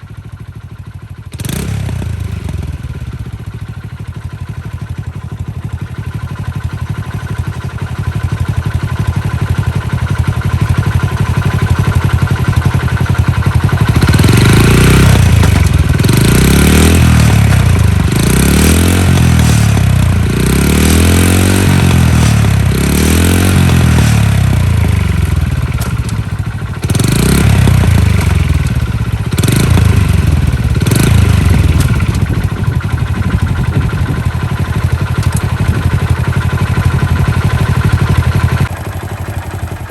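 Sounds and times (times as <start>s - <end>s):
small motorcycle engine revving: 1.1s - 39.9s.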